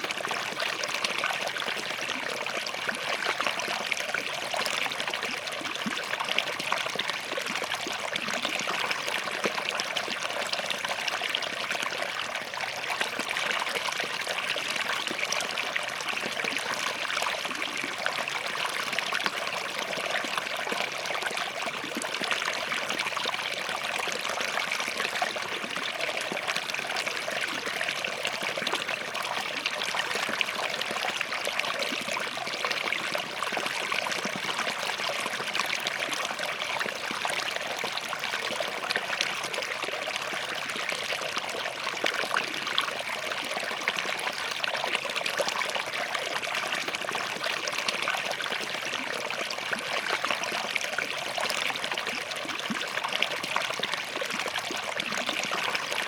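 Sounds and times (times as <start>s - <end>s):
stream trickling between rocks: 0.0s - 56.0s.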